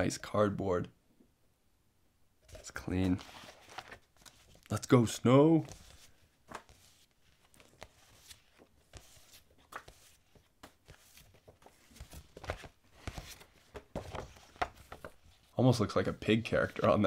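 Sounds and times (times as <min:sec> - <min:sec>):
paper sheets rustling: 0:02.5 - 0:17.0.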